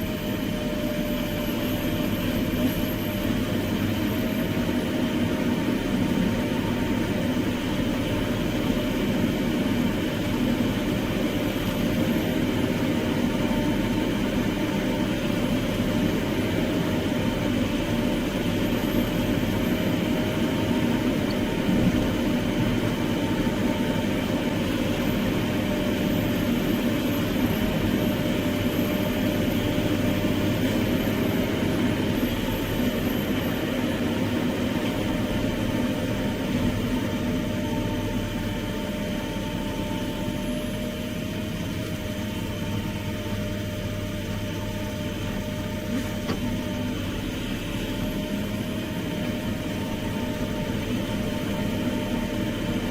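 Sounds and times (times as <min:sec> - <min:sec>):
heavy machinery engine running: 0:00.0 - 0:52.9.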